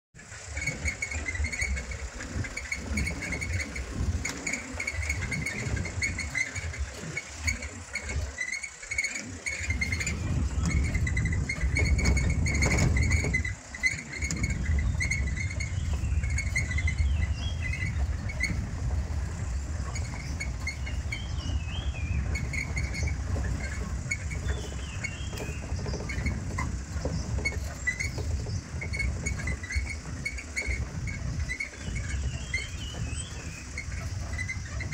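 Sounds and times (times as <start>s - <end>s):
birds calling: 0.2s - 34.9s
vehicle rumbling on dirt track: 0.2s - 34.9s.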